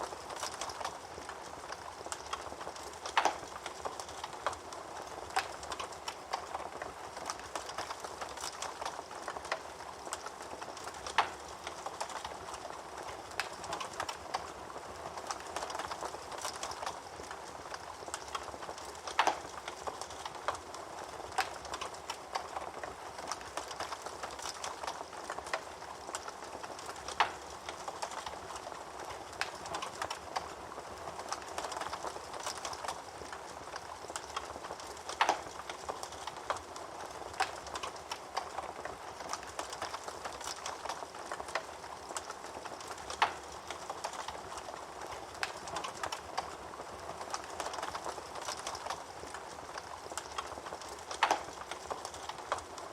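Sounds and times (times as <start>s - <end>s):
fire crackling: 0.0s - 52.9s
hiss of burning fire: 0.1s - 52.9s.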